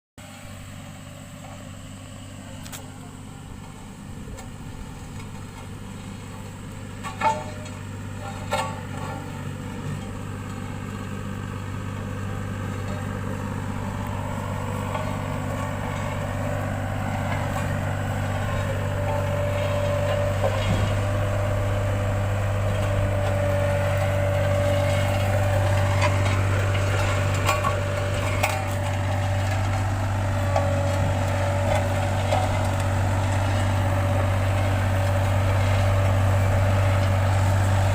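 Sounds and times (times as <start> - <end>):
diesel engine humming: 0.2 - 37.9.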